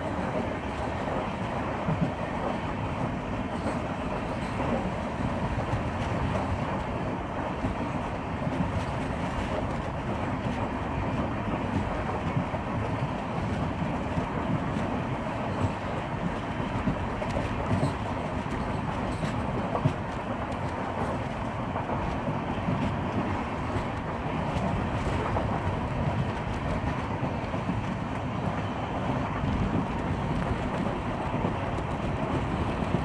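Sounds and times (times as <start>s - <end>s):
train rumbling and rattling: 0.0s - 33.0s.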